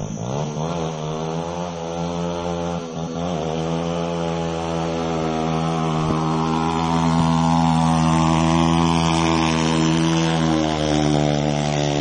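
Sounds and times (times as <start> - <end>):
motorbike engine at high revs: 0.0 - 12.0.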